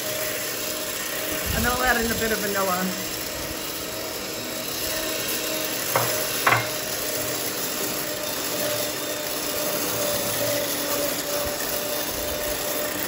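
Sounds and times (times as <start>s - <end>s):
electric hand mixer whipping cream: 0.0s - 13.0s.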